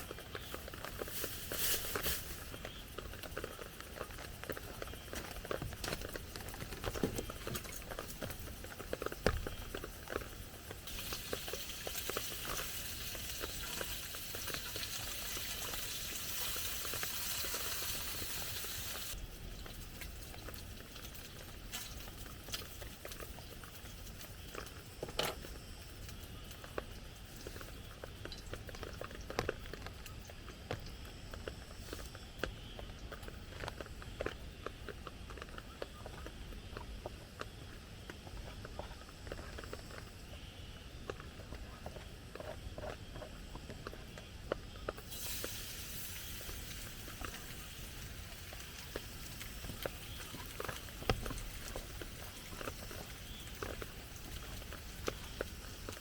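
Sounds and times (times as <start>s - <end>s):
steady rain hiss: 0.0s - 35.4s, 45.0s - 56.0s
raindrops tapping on a tarp: 0.0s - 40.1s, 41.0s - 56.0s.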